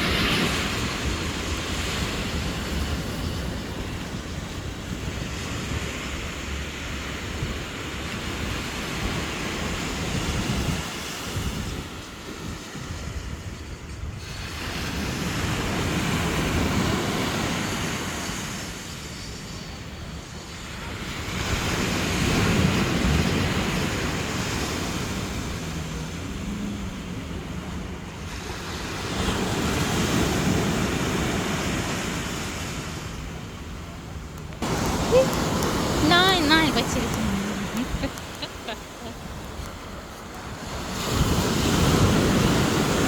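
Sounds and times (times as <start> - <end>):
sea waves washing on beach: 0.0 - 43.0
wind buffeting microphone: 0.0 - 43.0.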